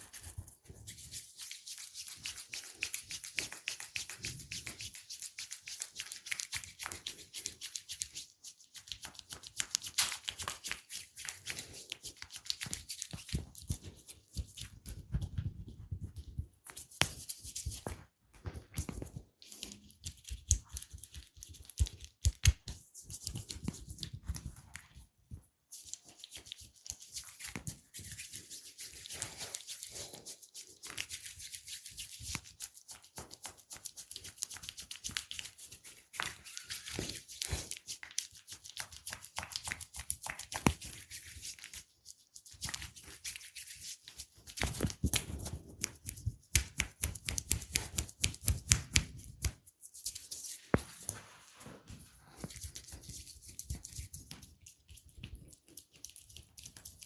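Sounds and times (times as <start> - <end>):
hands rubbing skin and hair: 0.0 - 57.0.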